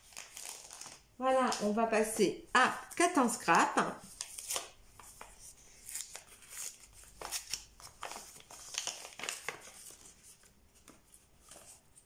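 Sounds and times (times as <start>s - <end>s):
packet crinkling and rustling: 0.0s - 2.2s, 4.0s - 12.0s.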